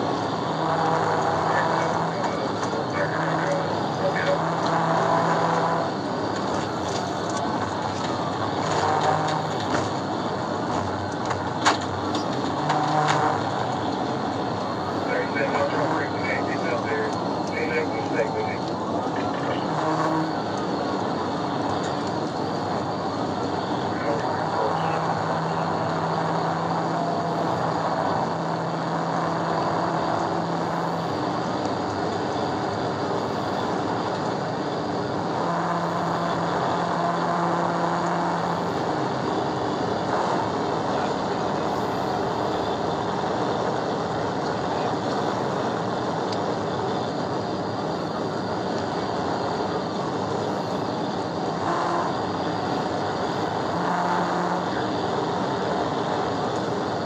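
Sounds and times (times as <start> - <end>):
car driving at high speed: 0.0 - 57.0
low engine drone: 0.0 - 57.0.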